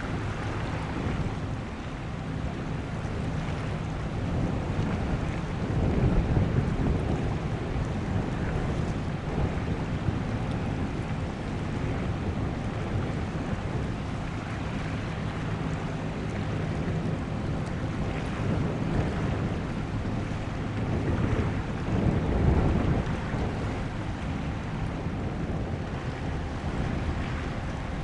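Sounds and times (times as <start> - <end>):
ship engine drone: 0.0 - 28.0
water: 0.0 - 28.0
wind rumble on microphone: 0.0 - 28.0.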